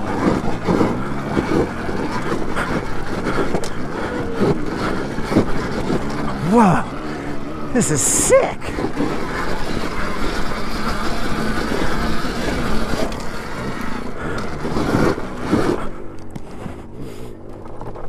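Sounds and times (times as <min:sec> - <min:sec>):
dirt bike rattling over rocks: 0:00.0 - 0:16.5.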